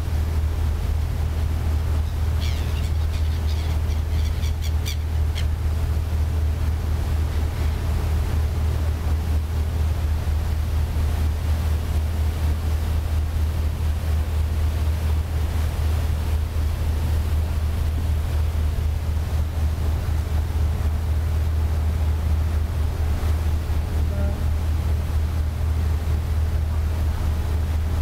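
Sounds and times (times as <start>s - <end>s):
ferry engine drone: 0.0s - 28.0s.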